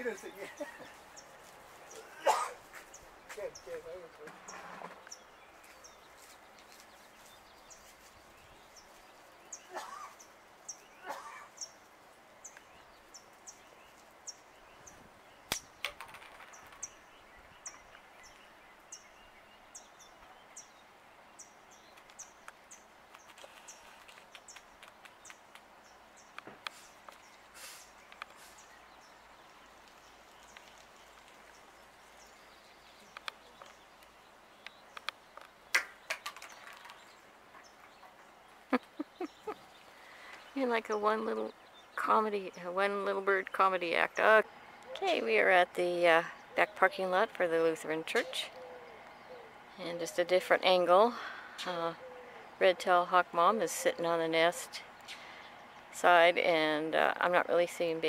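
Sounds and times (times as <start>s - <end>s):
faint outdoor ambience: 0.0s - 58.0s.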